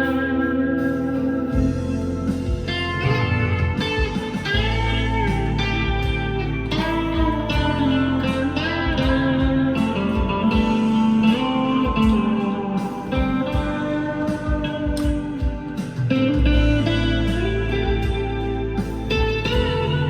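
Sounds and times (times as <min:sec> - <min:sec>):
clean electric guitar with reverb: 0:00.0 - 0:20.0.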